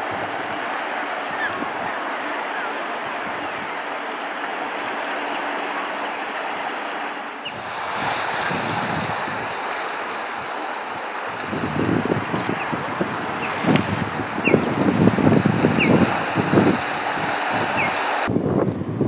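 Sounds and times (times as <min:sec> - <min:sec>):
wind buffeting microphone: 0:00.0 - 0:06.8, 0:07.4 - 0:19.0
waves lapping over rocks: 0:00.0 - 0:18.3.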